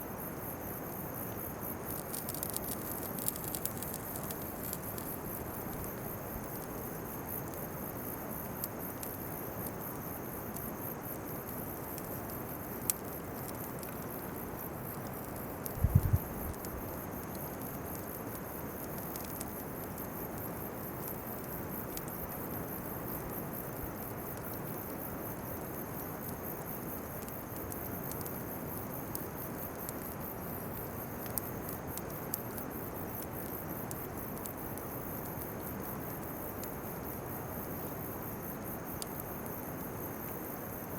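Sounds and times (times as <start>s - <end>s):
background hiss: 0.0s - 40.9s
insects chirping: 0.0s - 40.9s.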